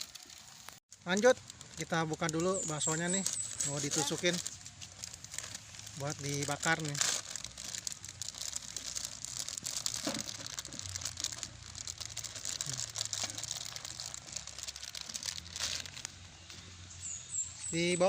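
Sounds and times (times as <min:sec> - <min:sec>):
plastic packaging crinkling: 0:00.0 - 0:16.6.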